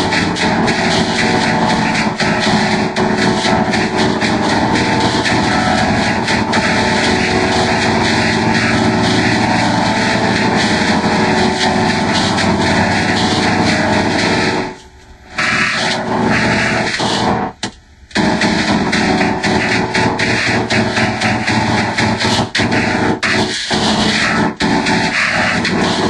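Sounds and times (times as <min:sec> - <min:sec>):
distorted electronic toy voice drone: 0:00.0 - 0:26.0.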